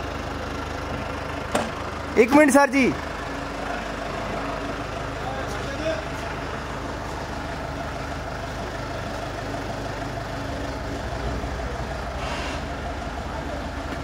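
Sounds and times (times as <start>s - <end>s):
minibus engine idling: 0.0s - 14.0s.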